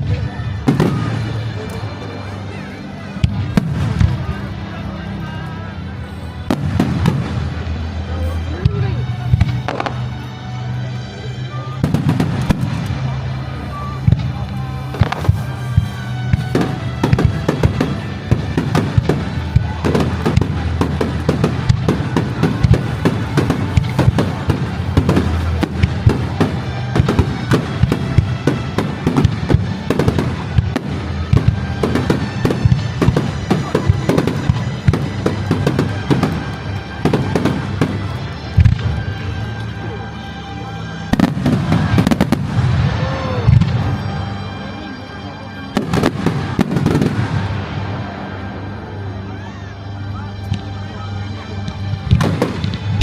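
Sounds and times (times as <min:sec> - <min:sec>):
fireworks bangs and crackling: 0:00.0 - 0:49.3, 0:50.2 - 0:53.0
music: 0:00.0 - 0:53.0.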